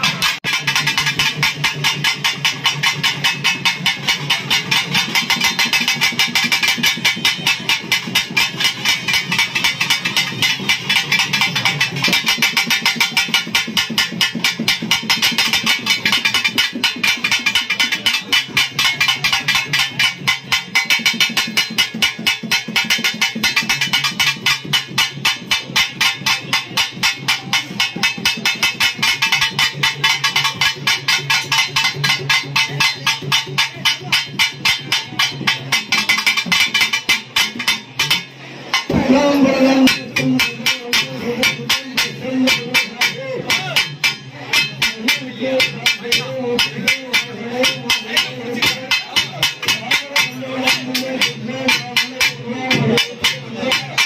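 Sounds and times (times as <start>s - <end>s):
fast drumming: 0.0s - 54.0s.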